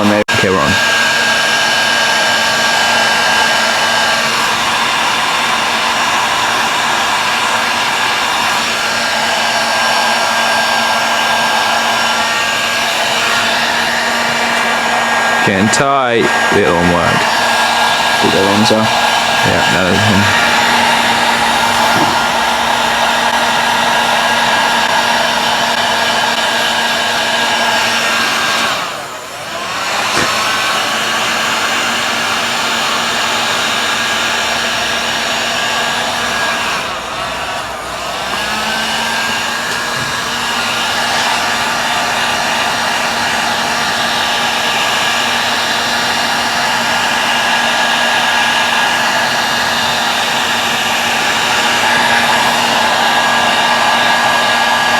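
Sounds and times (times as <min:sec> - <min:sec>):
heat gun whining and hissing: 0:00.0 - 0:54.9.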